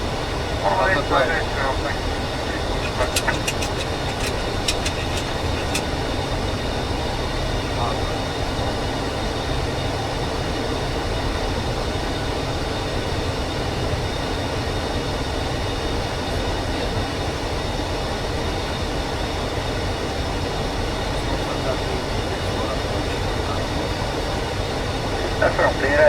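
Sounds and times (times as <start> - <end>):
rushing rumble of airflow and engines: 0.0 - 26.0.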